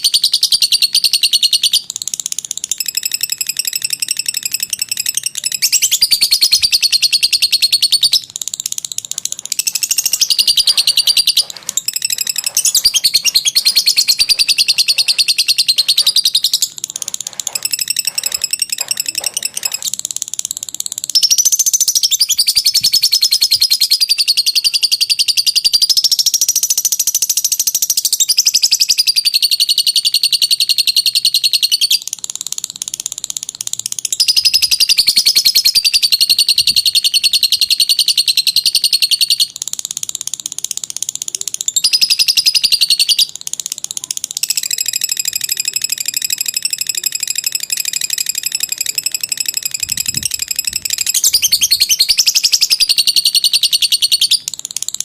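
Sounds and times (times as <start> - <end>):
lovebird chattering trill: 0.0 - 55.0.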